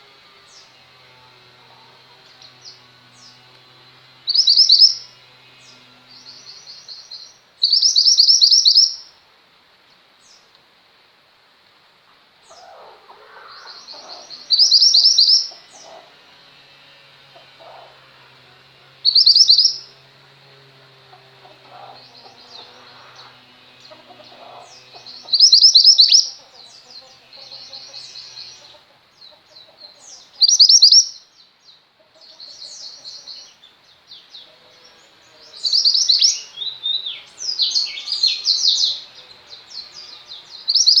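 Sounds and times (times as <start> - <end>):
songbird chirps and trills: 0.0 - 10.6, 11.7 - 41.0.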